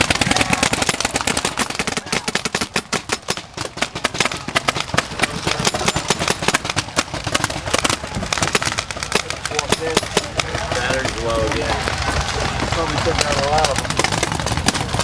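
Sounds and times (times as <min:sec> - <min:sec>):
paintball markers firing: 0:00.0 - 0:15.0.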